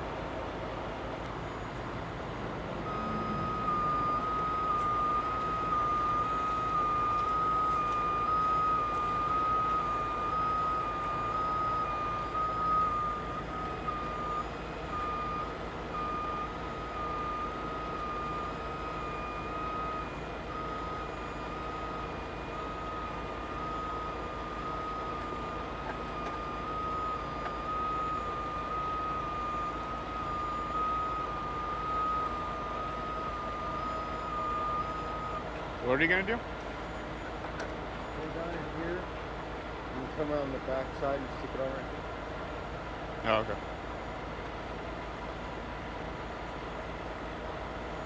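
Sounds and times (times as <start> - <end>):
truck backup alarm beeping: 0.0 - 48.0
truck engine running: 0.0 - 48.0.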